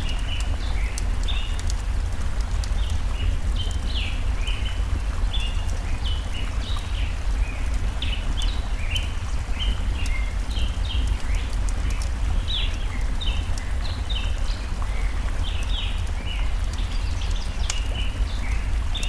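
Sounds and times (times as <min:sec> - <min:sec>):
stream water rushing: 0:00.0 - 0:19.0
wood fire crackling: 0:00.0 - 0:19.0.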